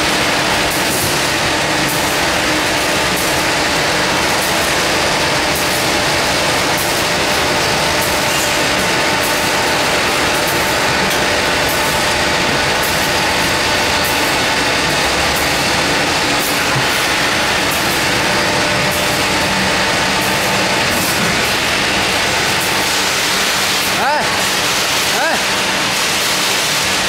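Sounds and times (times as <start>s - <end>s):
conveyor machinery noise: 0.0s - 27.0s.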